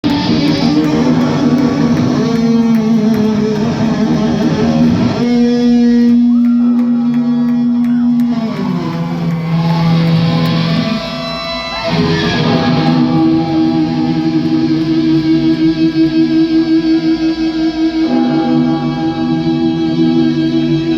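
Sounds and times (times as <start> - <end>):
distorted electric guitar: 0.0 - 20.9
heavy metal band playing: 0.0 - 20.9.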